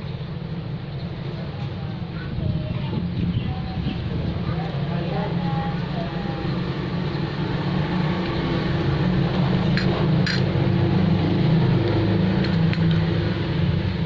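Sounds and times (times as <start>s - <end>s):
rushing noise: 0.0s - 14.0s.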